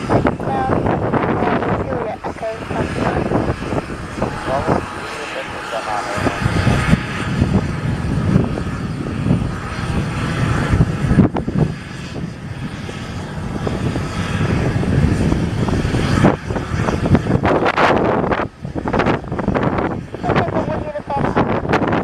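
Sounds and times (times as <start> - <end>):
faint engine whine: 0.0 - 22.0
jet engines rumbling: 0.0 - 22.0.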